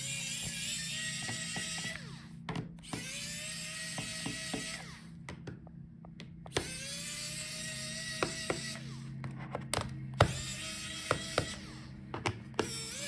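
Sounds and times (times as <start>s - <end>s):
electric screwdriver motor whine: 0.0s - 5.2s, 6.5s - 13.0s.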